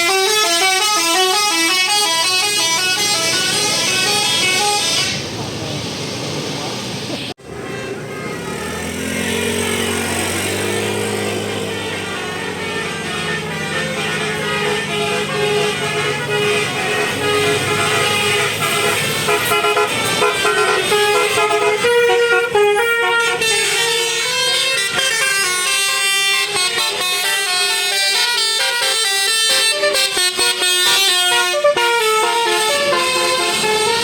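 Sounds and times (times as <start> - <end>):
musical bus air horn: 0.0 - 5.4, 7.7 - 34.0.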